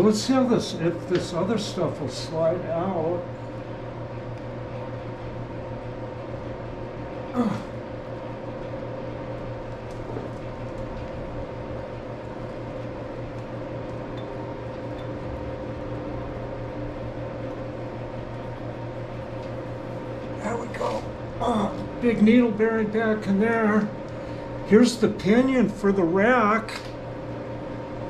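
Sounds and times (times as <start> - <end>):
workshop equipment hum: 0.0 - 28.0.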